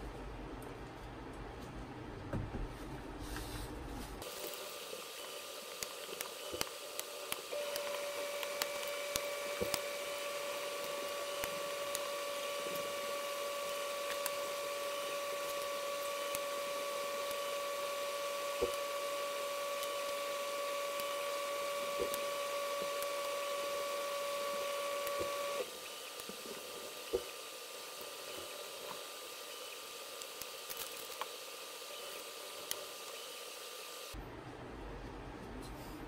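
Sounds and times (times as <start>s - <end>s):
steady hum with overtones: 0.0s - 36.0s.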